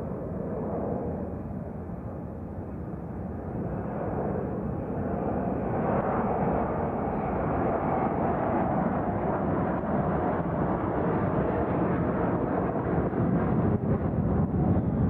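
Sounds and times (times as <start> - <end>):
jet airliner flying overhead: 0.0 - 15.0.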